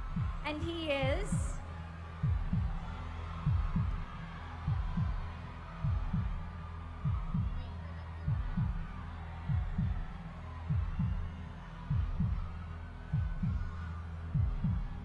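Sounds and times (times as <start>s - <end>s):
heartbeat thumps: 0.0s - 7.7s, 8.3s - 15.0s.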